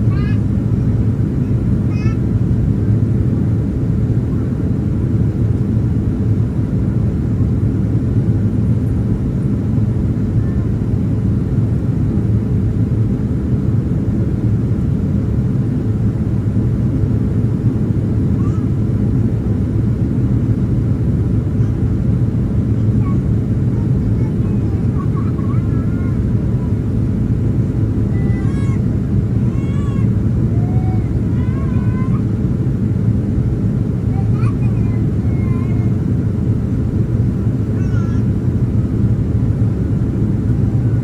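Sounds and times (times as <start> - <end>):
airliner cabin drone: 0.0 - 41.0.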